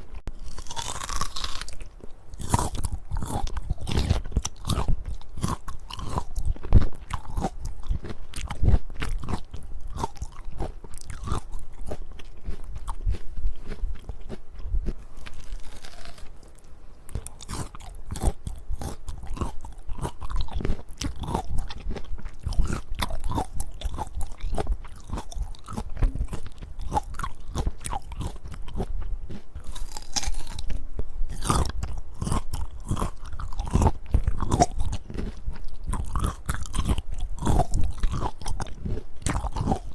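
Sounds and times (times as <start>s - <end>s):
person chewing fruit: 0.0s - 39.9s.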